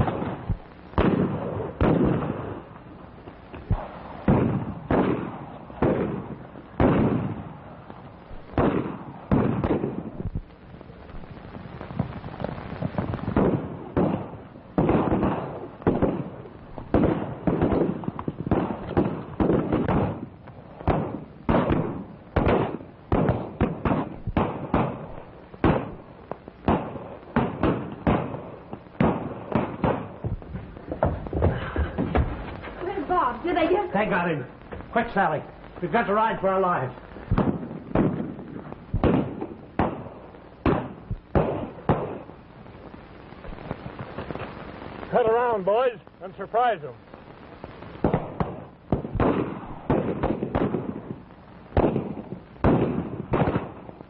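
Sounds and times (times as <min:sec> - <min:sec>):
gunshots: 0:00.0 - 0:02.7, 0:03.6 - 0:10.4, 0:11.2 - 0:42.4, 0:47.9 - 0:54.0.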